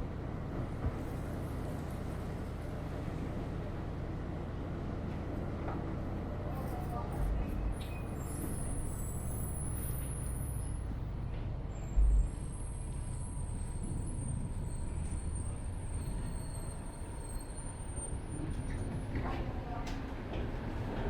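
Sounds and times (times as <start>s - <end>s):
tram rumbling along track: 0.0s - 21.0s.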